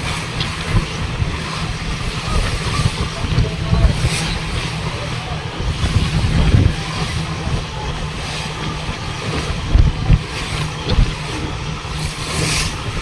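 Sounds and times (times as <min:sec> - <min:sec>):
boat engine running: 0:00.0 - 0:13.0
water rushing along hull: 0:00.0 - 0:13.0
wind thumps on microphone: 0:00.0 - 0:13.0.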